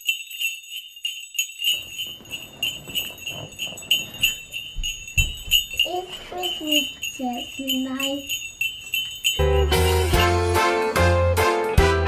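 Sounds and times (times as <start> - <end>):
sleigh bells jingling: 0.0 - 12.0.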